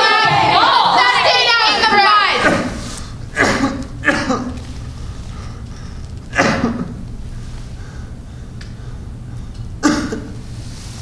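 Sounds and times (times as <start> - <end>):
low steady hum: 0.5 - 11.0.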